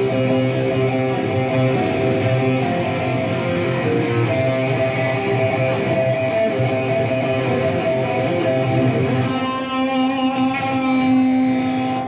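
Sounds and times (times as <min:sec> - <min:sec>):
electric guitar strummed chords: 0:00.0 - 0:12.0.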